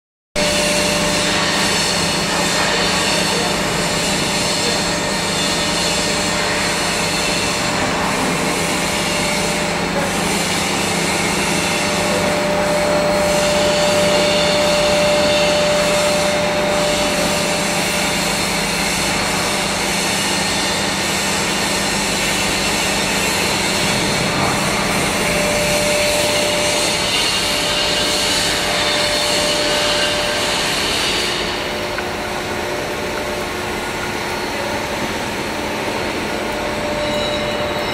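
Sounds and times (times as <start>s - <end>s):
machine hum and blower rush: 0.4s - 37.9s
thin machine whine: 0.4s - 37.9s.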